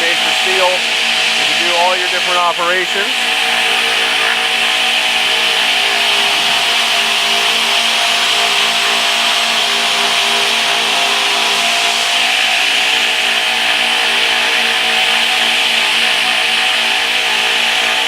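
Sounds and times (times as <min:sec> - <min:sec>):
saw blade whine: 0:00.0 - 0:18.0
saw motor hum: 0:00.0 - 0:18.0.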